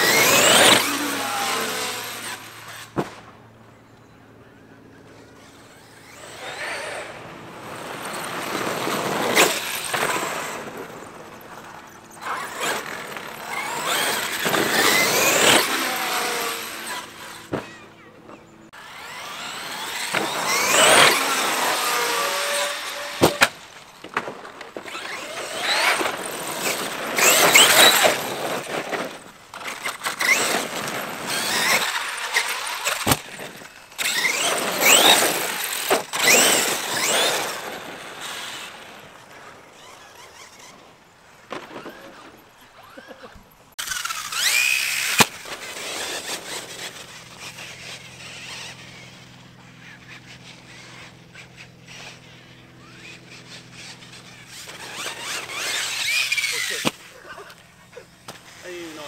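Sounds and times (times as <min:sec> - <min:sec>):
electric motor whining: 0:00.0 - 0:03.0, 0:05.0 - 0:59.0.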